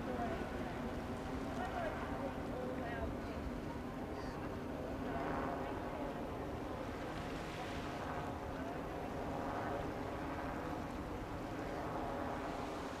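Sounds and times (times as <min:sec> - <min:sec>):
faint voices: 0:00.0 - 0:13.0
wind: 0:00.0 - 0:13.0.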